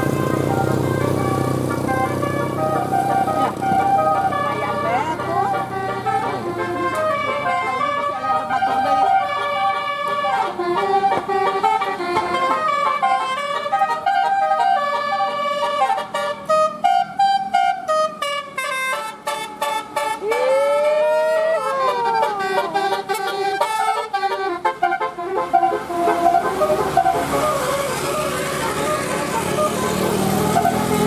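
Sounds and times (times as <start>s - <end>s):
air horn playing melody: 0.0s - 31.0s.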